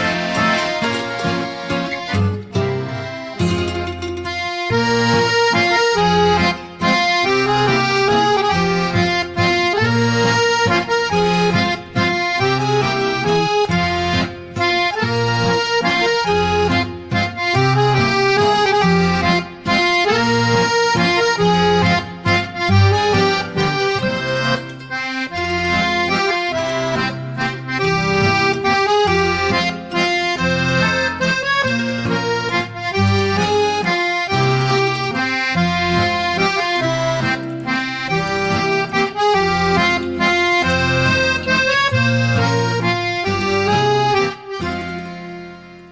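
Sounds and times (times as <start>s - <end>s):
lively traditional instrumental music: 0.0s - 45.9s.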